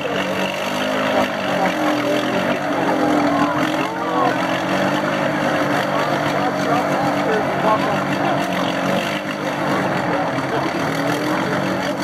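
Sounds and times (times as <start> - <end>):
atv engine running under load: 0.0 - 12.0
crowd voices: 0.0 - 12.0.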